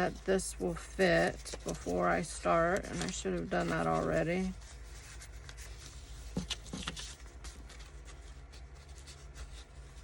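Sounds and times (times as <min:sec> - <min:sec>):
paper envelopes rustling: 0:00.0 - 0:10.0
sharp paper crinkles: 0:00.0 - 0:10.0
steady low hum: 0:00.0 - 0:10.0.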